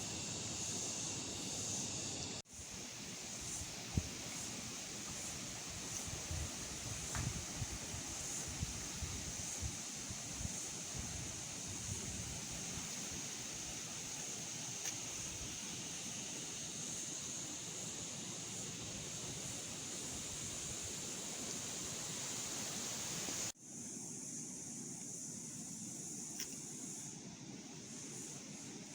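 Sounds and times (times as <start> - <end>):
high-pitched hiss: 0.0 - 28.9
steady outdoor noise: 0.0 - 28.9.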